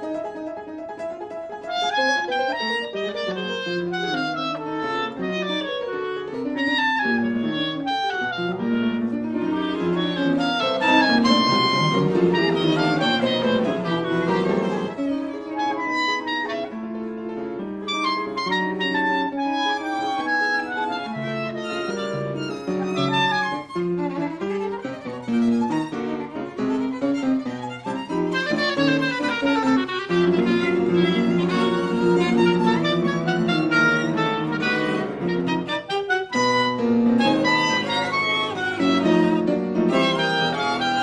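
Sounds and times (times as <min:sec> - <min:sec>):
chamber ensemble playing classical music: 0:00.0 - 0:41.0.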